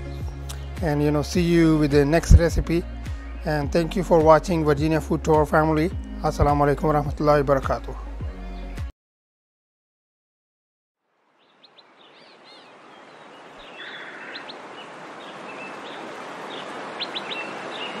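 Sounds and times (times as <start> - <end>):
birds chirping: 0.0 - 8.9, 11.4 - 18.0.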